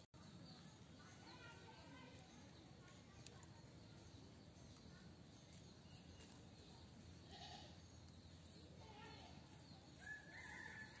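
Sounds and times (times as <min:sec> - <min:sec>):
faint outdoor hum: 0:00.0 - 0:11.0.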